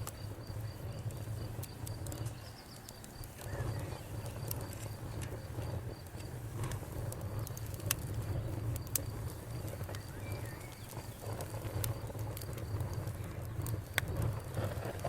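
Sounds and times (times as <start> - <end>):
campfire crackling and popping: 0.0 - 15.0
low rumble of fire: 0.0 - 15.0.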